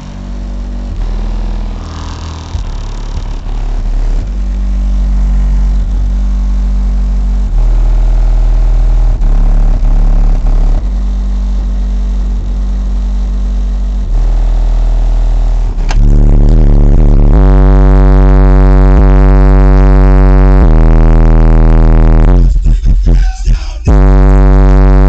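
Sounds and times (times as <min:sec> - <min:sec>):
deep bass through subwoofer: 0:00.0 - 0:25.0.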